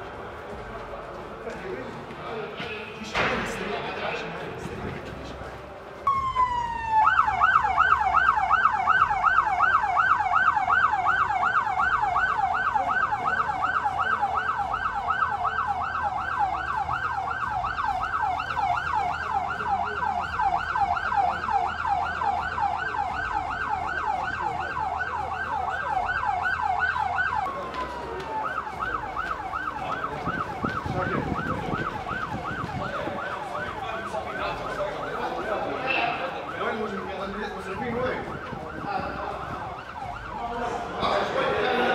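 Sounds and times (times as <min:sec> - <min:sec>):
electronic siren yelping: 0:06.1 - 0:41.0.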